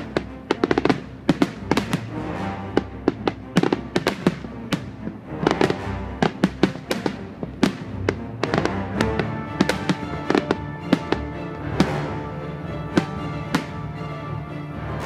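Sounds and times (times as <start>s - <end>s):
fireworks bangs: 0.0s - 2.1s, 2.7s - 13.9s
background music: 0.0s - 15.0s.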